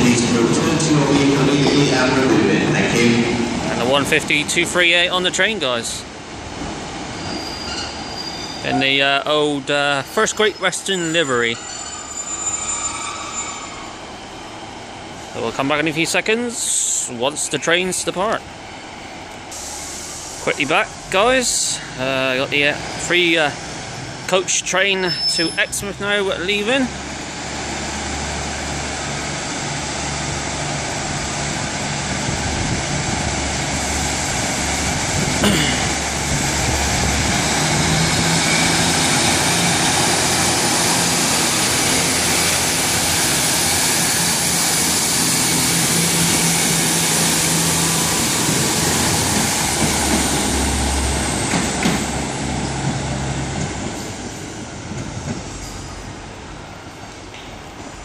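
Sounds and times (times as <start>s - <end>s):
diesel train passing: 0.0s - 58.0s.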